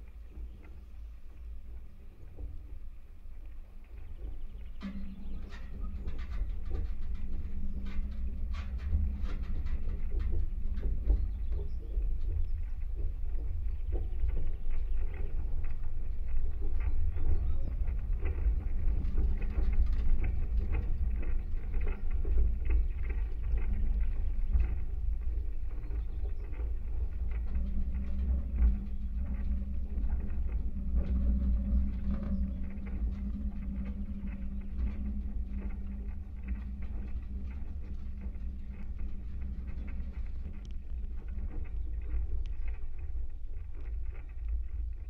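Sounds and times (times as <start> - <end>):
low rumble with crackles: 0.0 - 45.0
steady low hum: 0.0 - 45.0.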